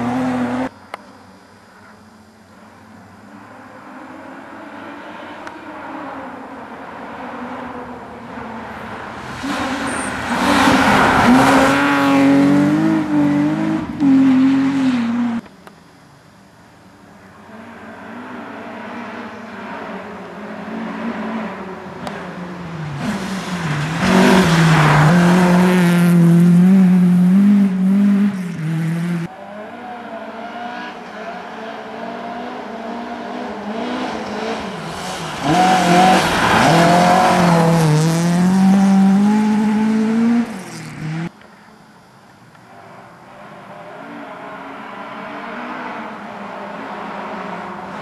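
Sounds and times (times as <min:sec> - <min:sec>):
rally cars passing at full throttle: 0:00.0 - 0:01.0, 0:01.8 - 0:16.0, 0:17.1 - 0:41.6, 0:42.6 - 0:48.0.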